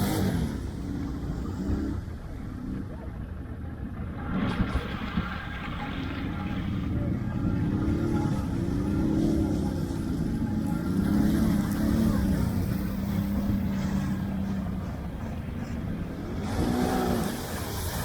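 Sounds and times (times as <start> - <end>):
atv engine revving: 0.0 - 2.8, 5.2 - 18.0.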